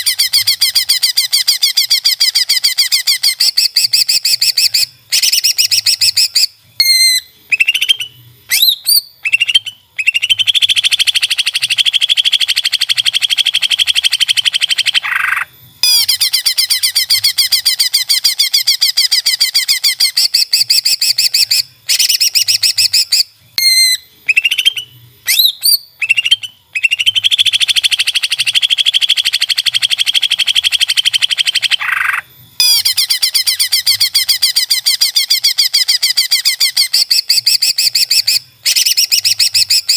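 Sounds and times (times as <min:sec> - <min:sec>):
bird chattering song: 0:00.0 - 0:39.9
bird sweeping whistles: 0:00.0 - 0:39.9.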